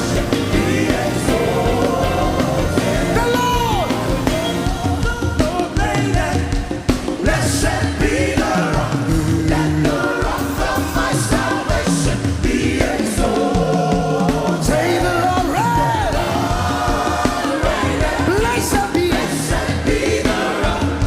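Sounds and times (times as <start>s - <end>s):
band playing: 0.0s - 21.0s
voices singing: 0.0s - 21.0s.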